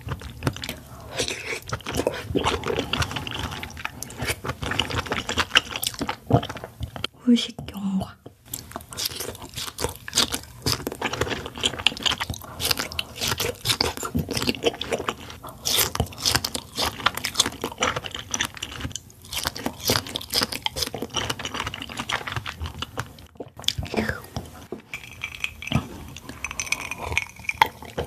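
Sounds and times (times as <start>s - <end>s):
person chewing crunchy fruit: 0.0s - 7.1s, 8.5s - 28.0s.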